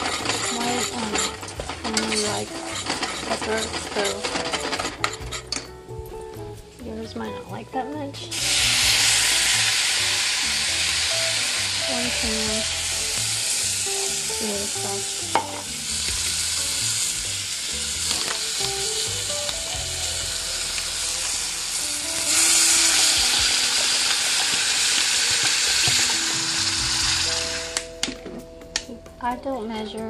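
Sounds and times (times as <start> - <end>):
rice sizzling in hot oil: 0.0 - 5.5, 8.3 - 27.9.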